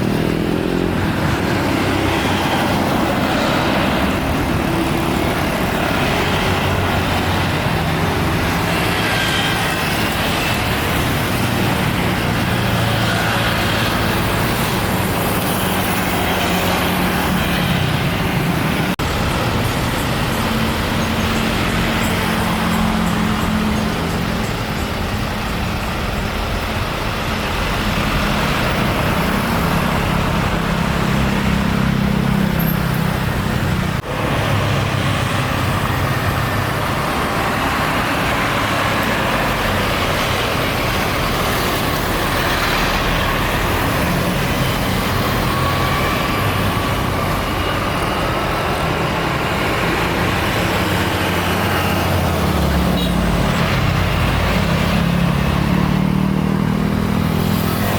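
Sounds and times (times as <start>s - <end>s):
jet engines roaring: 0.0s - 57.9s.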